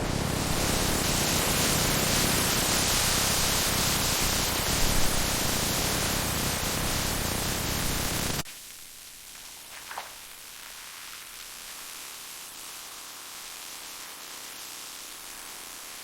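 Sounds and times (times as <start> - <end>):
faint hiss: 0.0 - 16.0
loud steady hissing static: 0.0 - 16.0.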